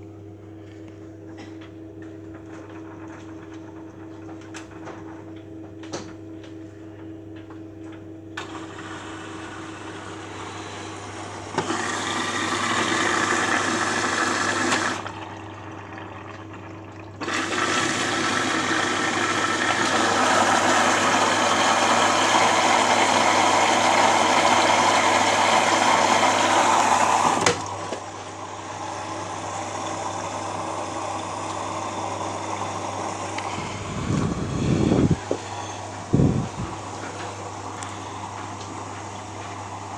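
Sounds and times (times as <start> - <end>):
electrical hum: 0.0 - 39.9
washing machine filling with water: 1.9 - 6.2, 8.4 - 39.9.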